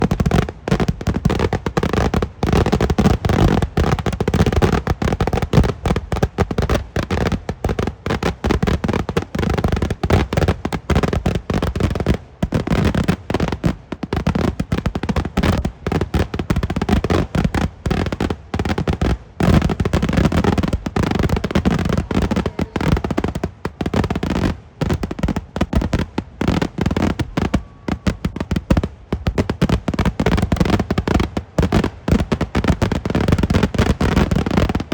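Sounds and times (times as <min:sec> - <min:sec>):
firecracker explosions: 0:00.0 - 0:34.9.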